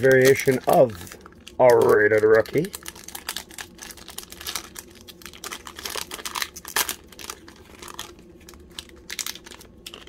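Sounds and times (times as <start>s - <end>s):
wrapper crinkling: 0.0s - 10.0s.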